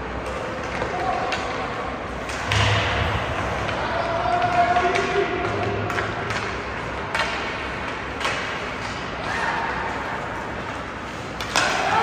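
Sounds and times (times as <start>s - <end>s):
ice rink noise: 0.0s - 12.0s
hockey stick hitting puck: 0.2s - 9.1s, 11.2s - 12.0s.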